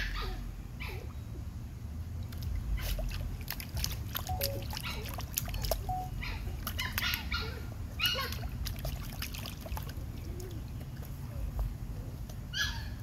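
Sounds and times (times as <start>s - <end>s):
puppy splashing in water: 2.2s - 13.0s.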